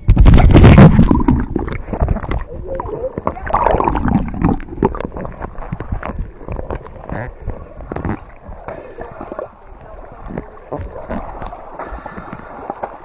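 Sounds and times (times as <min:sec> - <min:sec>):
seawater splashing: 0:00.0 - 0:13.0
water gurgling and sloshing: 0:00.0 - 0:13.0.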